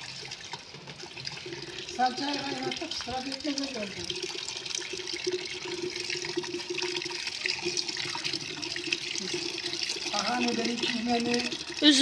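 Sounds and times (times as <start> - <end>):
juice pouring into plastic bucket: 0.0 - 12.0.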